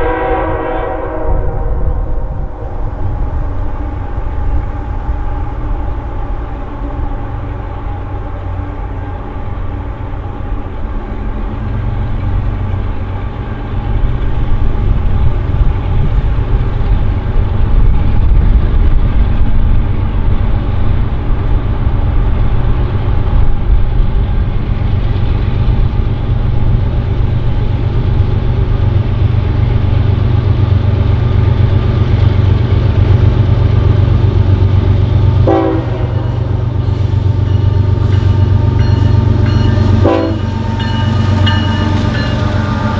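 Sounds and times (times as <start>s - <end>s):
diesel freight train rumbling: 0.0s - 42.9s.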